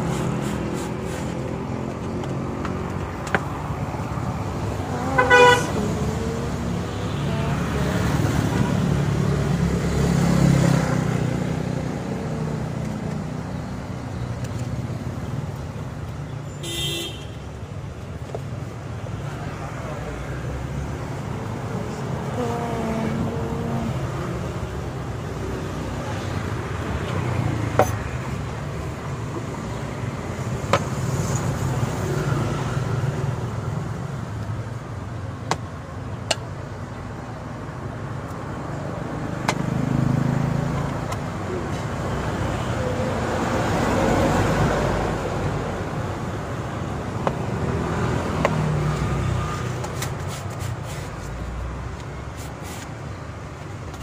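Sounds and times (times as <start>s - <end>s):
road traffic: 0.0s - 54.0s
vehicles passing: 0.0s - 54.0s.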